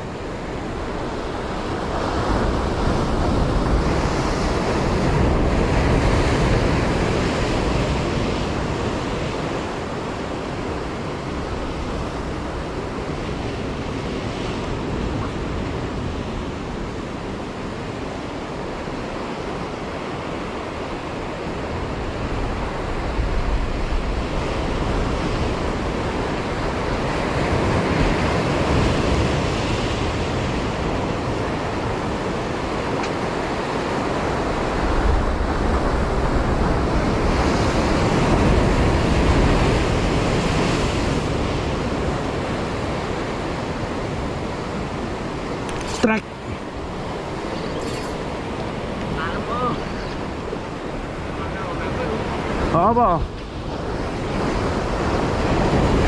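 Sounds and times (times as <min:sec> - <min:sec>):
sea surf washing against breakwater: 0:00.0 - 0:56.0
wind on microphone: 0:00.0 - 0:56.0.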